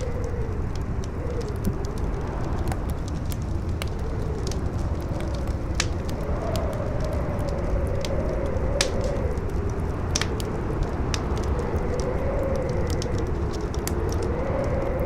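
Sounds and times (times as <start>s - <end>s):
campfire crackling and popping: 0.0s - 15.0s
howling wind: 0.0s - 15.0s.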